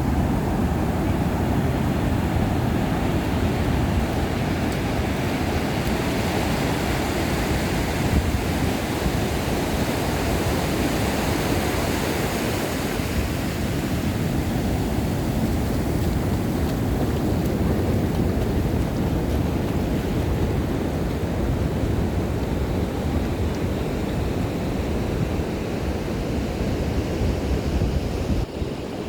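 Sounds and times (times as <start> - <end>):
ocean surf washing onto beach: 0.0 - 29.0.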